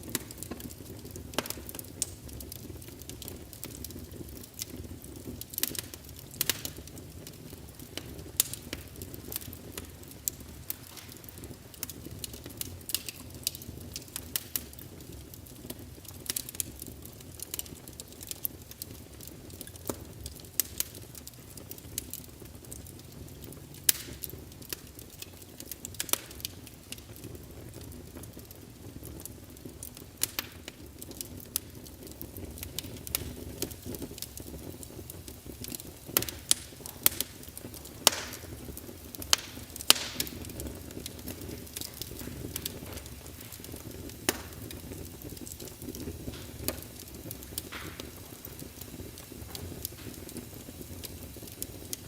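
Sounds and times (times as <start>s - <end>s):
low rumble of flames: 0.0s - 52.0s
wood fire crackling: 0.0s - 52.0s.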